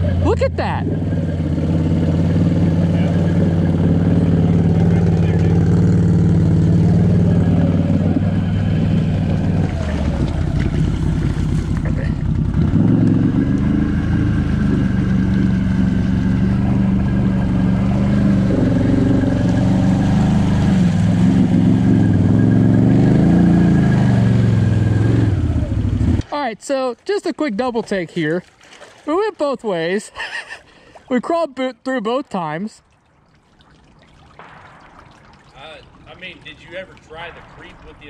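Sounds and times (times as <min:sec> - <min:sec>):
atv engine in mud: 0:00.0 - 0:31.5.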